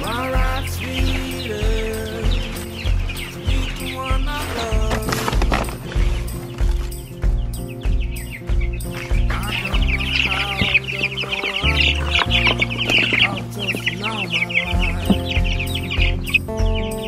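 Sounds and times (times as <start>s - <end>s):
background music: 0.0s - 17.0s
chicks peeping: 0.0s - 17.0s.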